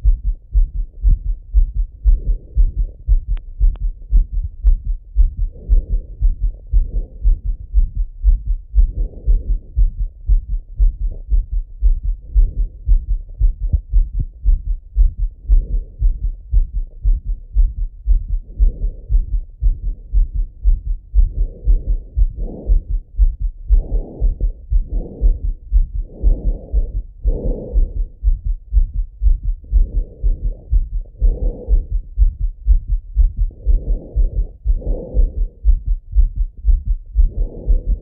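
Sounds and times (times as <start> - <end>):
heartbeat through stethoscope: 0.0 - 38.0
soft breathing: 0.0 - 38.0.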